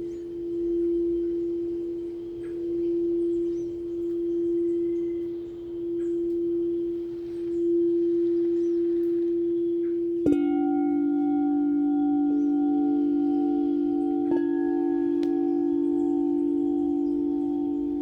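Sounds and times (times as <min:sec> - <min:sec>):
singing bowl ringing: 0:00.0 - 0:18.0
singing bowl struck: 0:00.0 - 0:18.0.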